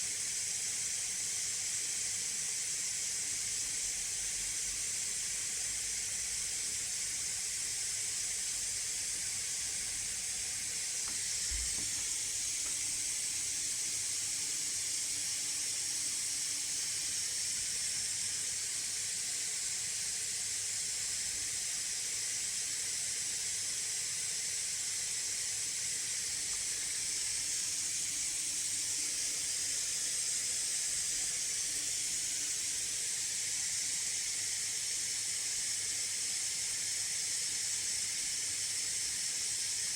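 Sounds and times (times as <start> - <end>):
laptop cooling fans hissing: 0.0 - 39.9.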